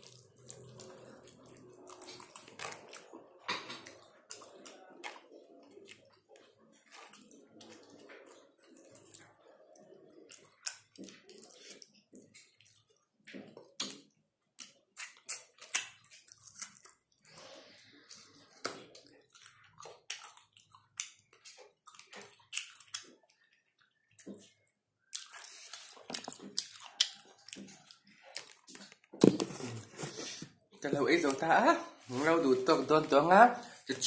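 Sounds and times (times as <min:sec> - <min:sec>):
wet chewing and lip-smacking: 0:00.0 - 0:29.8.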